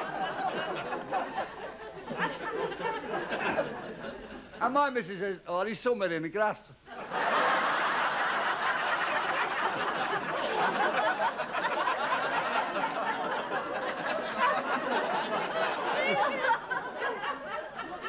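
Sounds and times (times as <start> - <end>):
large audience laughing: 0.0 - 4.6, 6.9 - 18.0.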